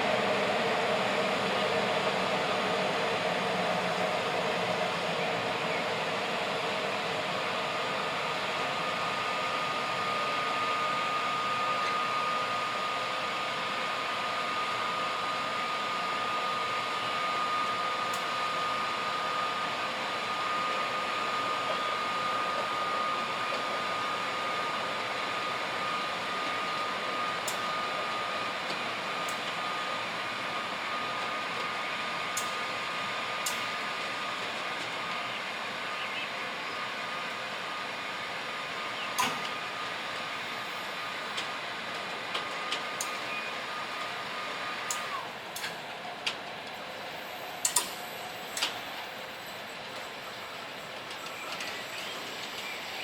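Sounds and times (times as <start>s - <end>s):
train rolling on rails: 0.0s - 53.0s.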